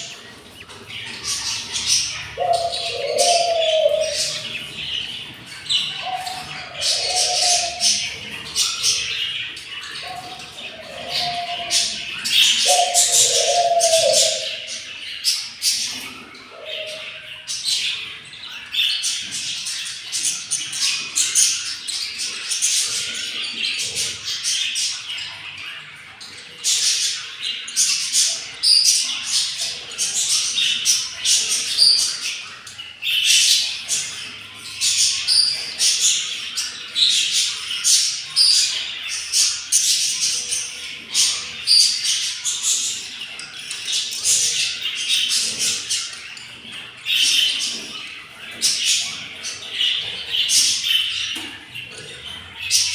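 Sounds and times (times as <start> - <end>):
budgerigars chattering and squawking: 0.0 - 52.9.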